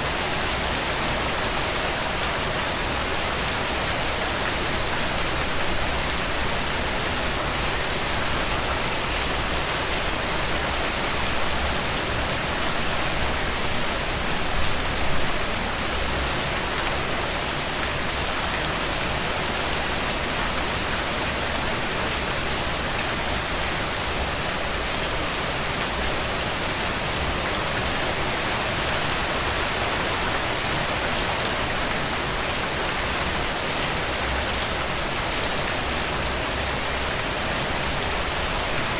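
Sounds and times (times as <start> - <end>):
rain falling on a tent: 0.0 - 38.9.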